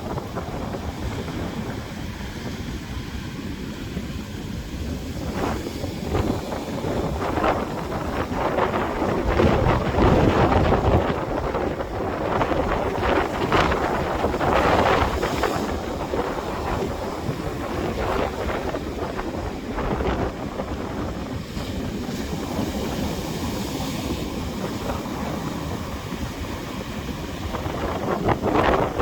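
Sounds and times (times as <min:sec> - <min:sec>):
surf breaking on beach: 0:00.0 - 0:29.0
wind buffeting microphone: 0:00.0 - 0:29.0.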